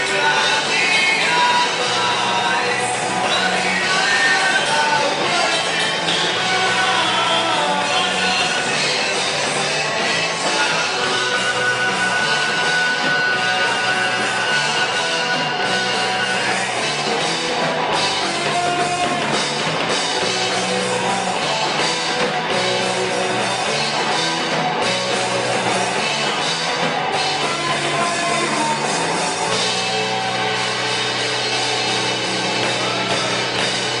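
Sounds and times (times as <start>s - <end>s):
rock music with drums and guitar: 0.0s - 34.0s.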